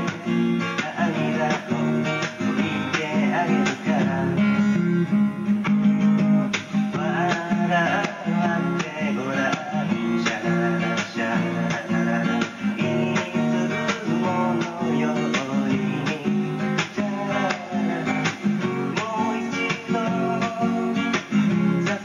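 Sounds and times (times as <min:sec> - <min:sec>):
acoustic guitar strumming: 0:00.0 - 0:22.0
man singing: 0:00.0 - 0:22.0.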